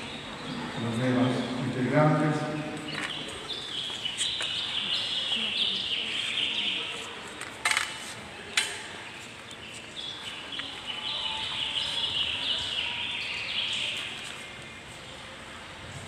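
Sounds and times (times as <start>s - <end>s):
birds chirping: 0.0s - 7.2s, 9.0s - 15.3s.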